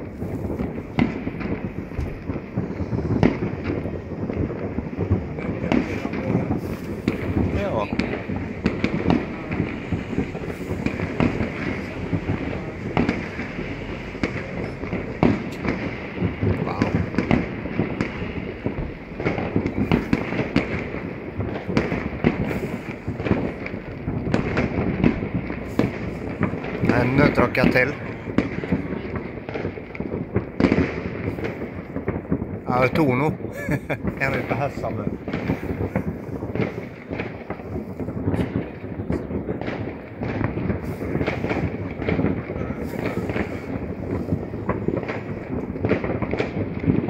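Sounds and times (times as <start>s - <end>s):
fireworks exploding: 0.0s - 47.0s.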